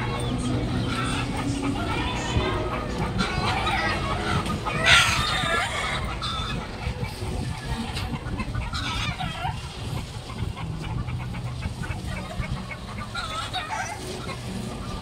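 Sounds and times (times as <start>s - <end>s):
chickens clucking: 0.0s - 15.0s
low street hum: 0.0s - 15.0s.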